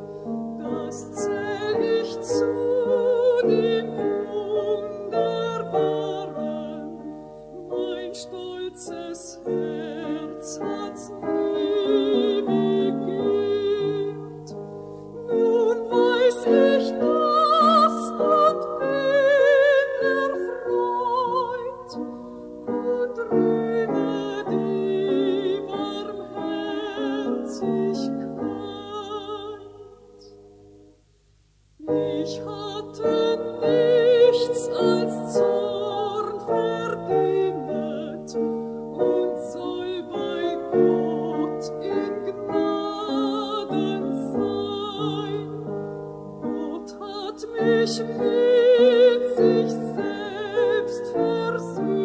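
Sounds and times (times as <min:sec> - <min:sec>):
person singing with vibrato: 0:00.0 - 0:30.4, 0:31.8 - 0:52.0.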